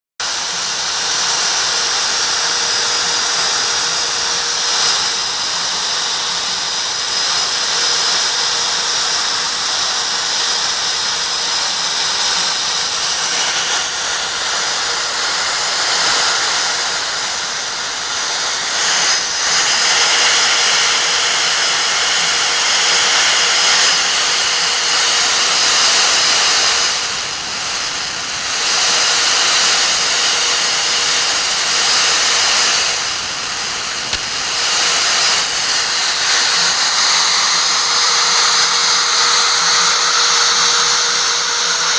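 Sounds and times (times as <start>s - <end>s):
router spindle whining and hissing: 0.2s - 41.9s.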